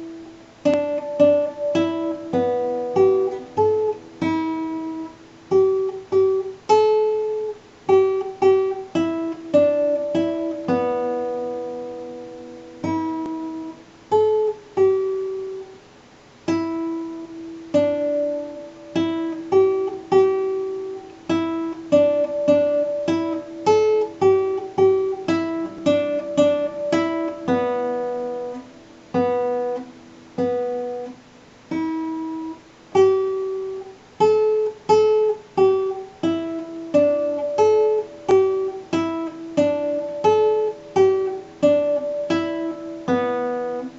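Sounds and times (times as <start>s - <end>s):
acoustic guitar picking: 0.0s - 43.9s.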